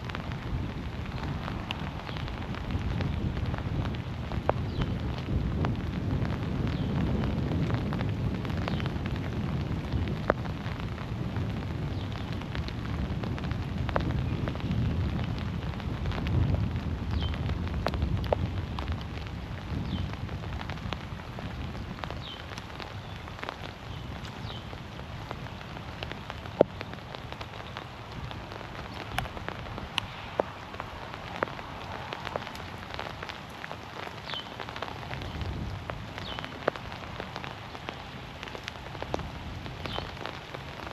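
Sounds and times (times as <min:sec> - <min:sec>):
heavy rain in forest: 0:00.0 - 0:40.9.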